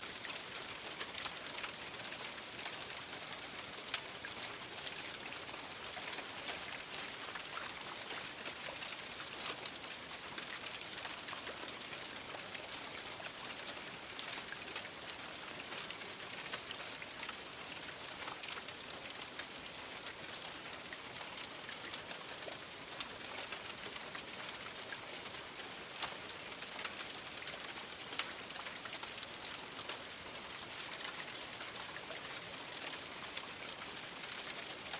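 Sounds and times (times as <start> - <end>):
rain pattering: 0.0 - 34.9.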